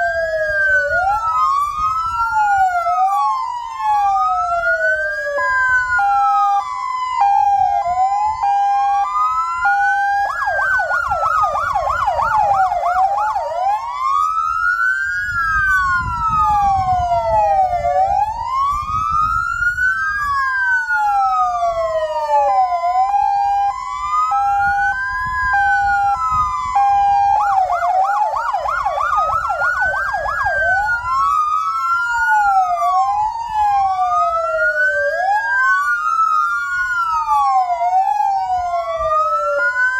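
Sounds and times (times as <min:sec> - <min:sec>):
rapid siren yelp: 0:00.0 - 0:39.9
sirens wailing: 0:00.0 - 0:39.9
two-tone siren: 0:00.0 - 0:39.9.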